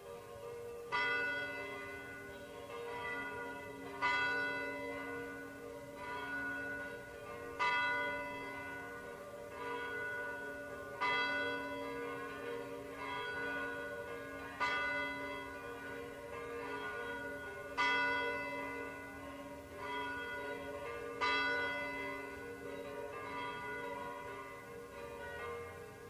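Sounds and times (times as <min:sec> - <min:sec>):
church bells ringing: 0:00.0 - 0:26.0.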